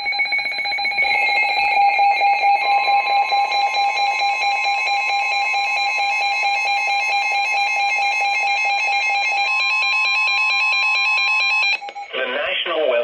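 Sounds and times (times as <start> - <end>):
high-pitched alarm tones: 0.0 - 12.2.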